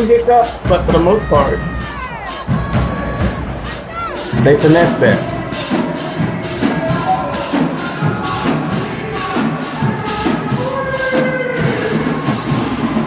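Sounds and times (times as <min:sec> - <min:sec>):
marching band brass: 0:00.0 - 0:13.0
marching drum beat: 0:00.0 - 0:13.0.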